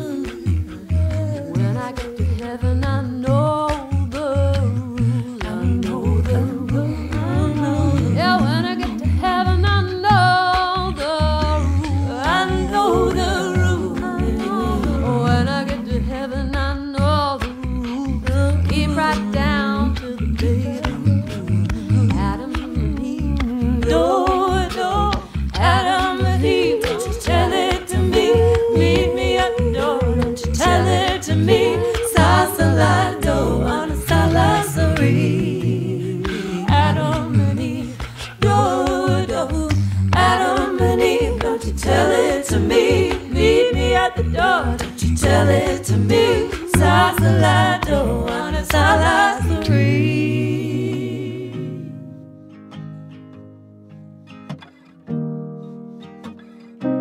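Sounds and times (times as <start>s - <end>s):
a cappella gospel singing: 0.0s - 52.2s.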